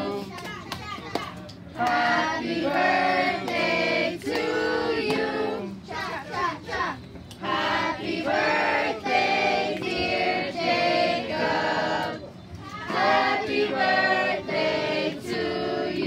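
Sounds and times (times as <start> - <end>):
group singing together: 0.0 - 0.3, 1.8 - 16.0.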